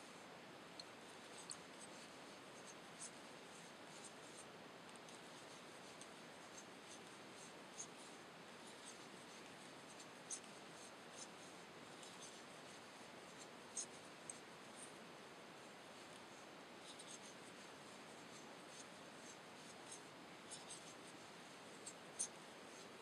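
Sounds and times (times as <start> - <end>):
low hiss: 0.0 - 23.0.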